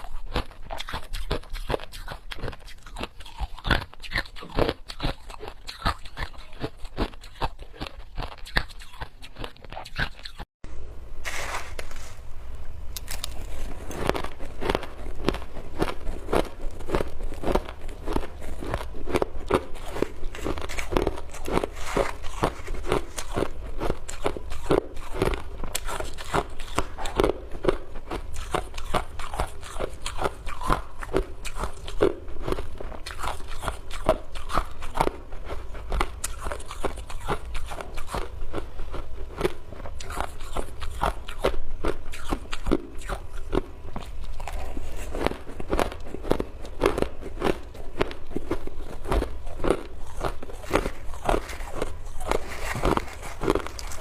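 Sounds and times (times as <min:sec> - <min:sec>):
ice being chewed: 0:00.0 - 0:10.4, 0:13.0 - 0:54.0.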